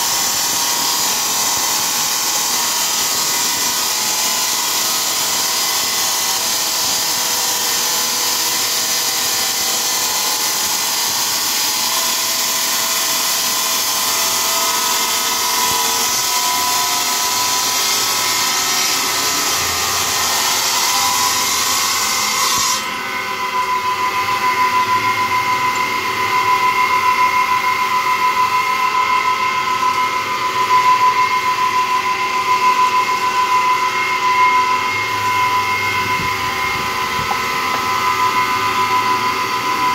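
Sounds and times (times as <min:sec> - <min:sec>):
saw blade whine: 0:00.0 - 0:39.9
saw grinding through tile: 0:00.0 - 0:39.9.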